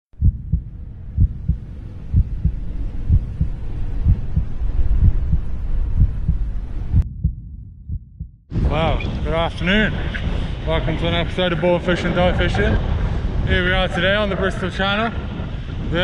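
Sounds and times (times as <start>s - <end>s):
wind buffeting microphone: 0.2s - 7.4s, 8.5s - 16.0s.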